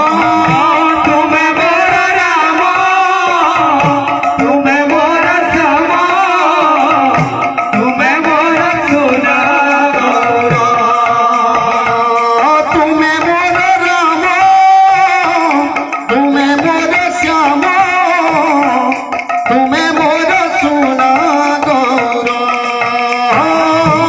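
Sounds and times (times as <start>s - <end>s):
hand drum beating: 0.0s - 24.0s
person singing: 0.0s - 24.0s.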